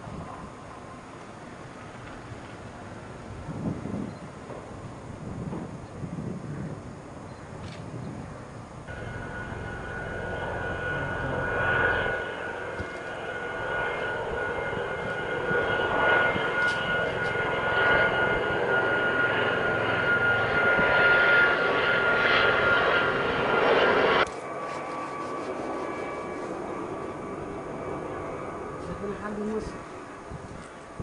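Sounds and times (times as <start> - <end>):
engine whine: 0.0 - 31.0.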